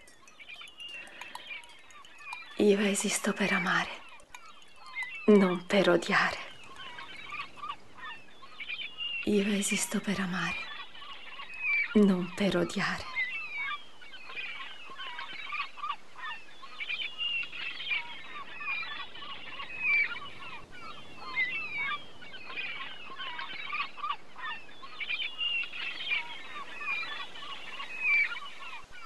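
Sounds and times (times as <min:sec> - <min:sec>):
flock of birds calling: 0:00.0 - 0:29.0.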